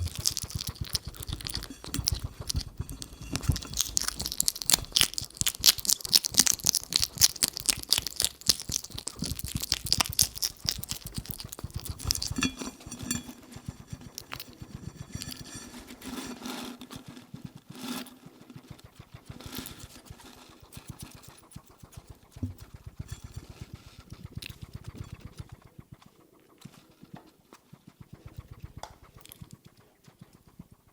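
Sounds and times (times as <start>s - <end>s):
hedgehog chewing with wet clicks: 0.0s - 15.7s, 18.7s - 30.6s
hedgehog snuffling: 0.0s - 30.9s.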